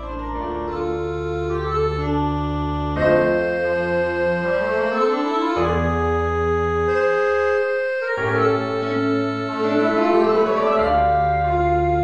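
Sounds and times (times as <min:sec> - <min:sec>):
organ chords: 0:00.0 - 0:12.0
rising keyboard notes: 0:00.0 - 0:12.0.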